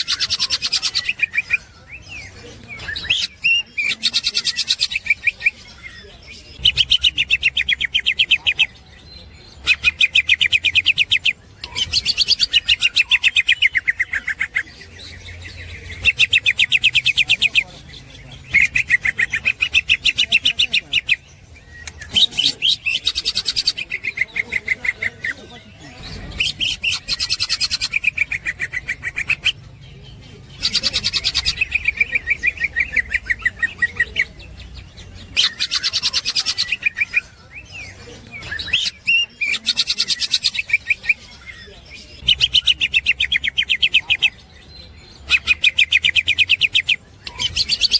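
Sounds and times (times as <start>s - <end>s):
bird chattering song: 0.0s - 47.9s.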